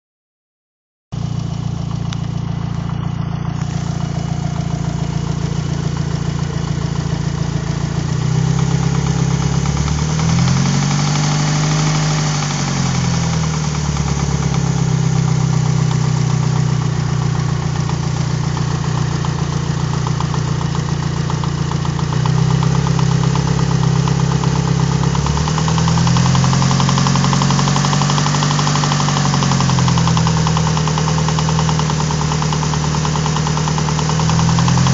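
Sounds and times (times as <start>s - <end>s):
car engine running and revving: 1.2s - 34.9s
rhythmic engine knock: 1.7s - 34.9s.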